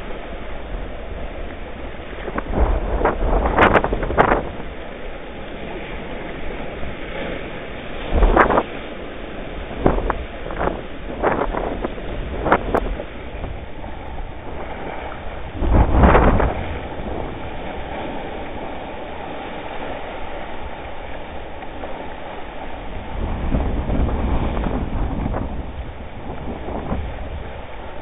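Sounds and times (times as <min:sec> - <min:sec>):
water splashing: 0:00.0 - 0:28.0
water surging: 0:00.0 - 0:28.0
waves breaking on rocks: 0:00.0 - 0:28.0
wind rumbling on microphone: 0:00.0 - 0:28.0.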